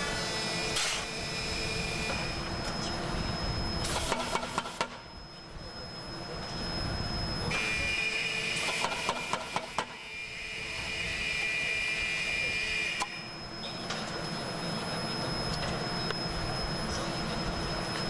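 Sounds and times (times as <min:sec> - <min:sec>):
workshop machinery whine: 0:00.0 - 0:18.0.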